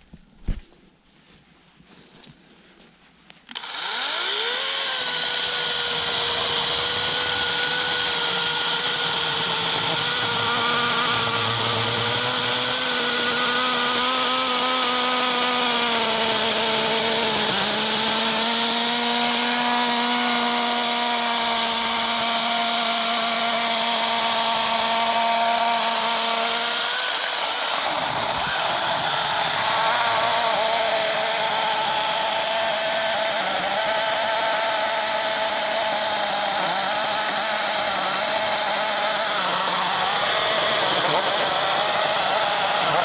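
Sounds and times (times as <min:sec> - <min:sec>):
electric chainsaw cutting wood: 0:03.5 - 0:43.0.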